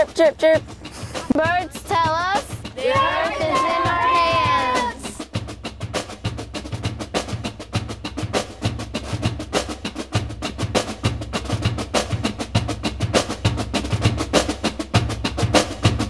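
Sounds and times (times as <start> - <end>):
fast clicking percussion: 0.0 - 16.0.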